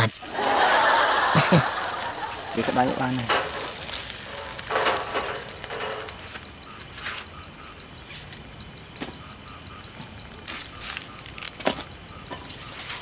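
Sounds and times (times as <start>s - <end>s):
insect chirping: 0.2s - 13.0s.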